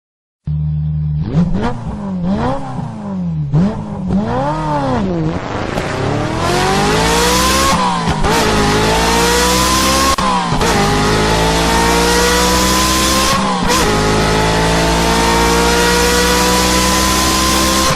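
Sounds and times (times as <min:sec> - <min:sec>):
car engine revving: 0:00.5 - 0:17.9.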